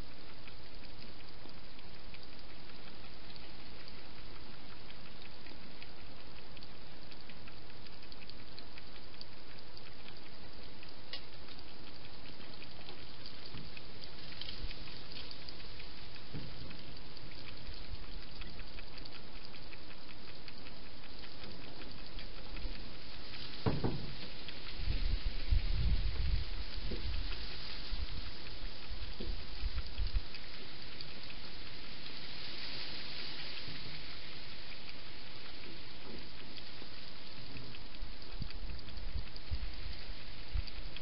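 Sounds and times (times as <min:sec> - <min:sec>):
faint crackly clicks: 0:00.0 - 0:41.0
steady microphone hiss: 0:00.0 - 0:41.0.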